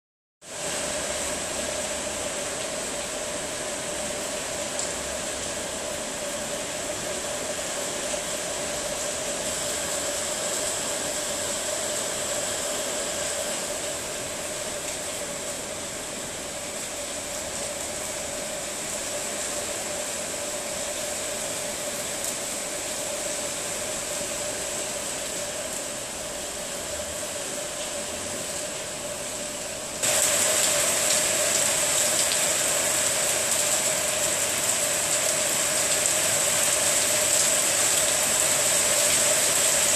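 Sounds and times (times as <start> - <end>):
heavy rain pouring: 0.4 - 39.9.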